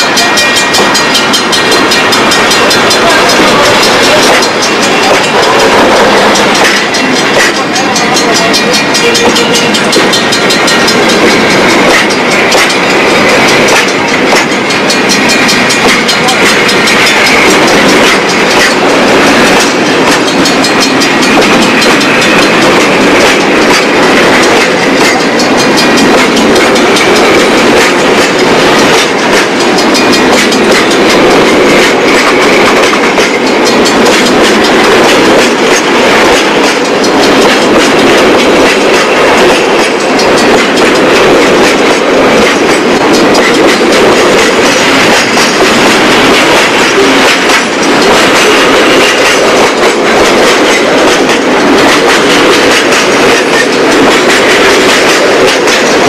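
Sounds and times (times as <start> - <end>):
freight train wagons rolling past: 0.0 - 56.0
wheels clicking over rail joints: 0.0 - 56.0.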